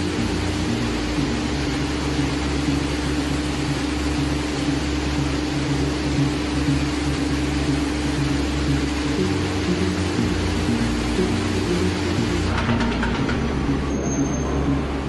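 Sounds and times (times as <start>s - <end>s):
air hiss: 0.0s - 15.0s
industrial hum: 0.0s - 15.0s
low wavering drone: 0.0s - 15.0s.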